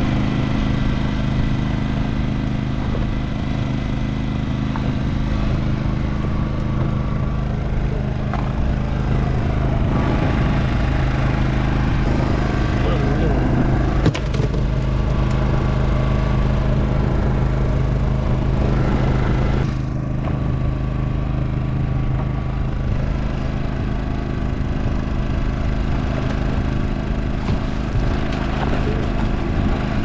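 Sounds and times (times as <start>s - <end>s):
boat engine humming: 0.0s - 30.0s.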